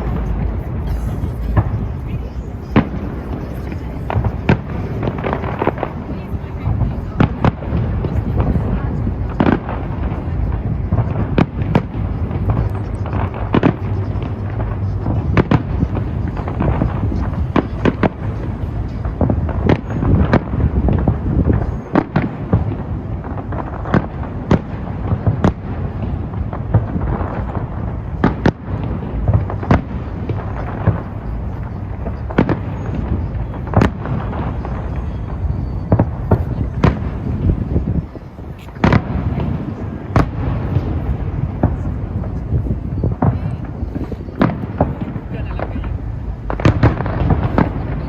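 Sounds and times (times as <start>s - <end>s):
firework bangs and crackles: 0.0s - 48.0s
low rumble of explosions: 0.0s - 48.0s.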